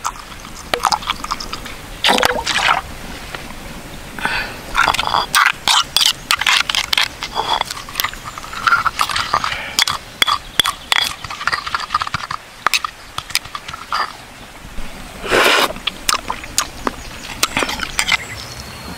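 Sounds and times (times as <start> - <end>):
wet squelches: 0.0 - 3.4, 4.8 - 18.4.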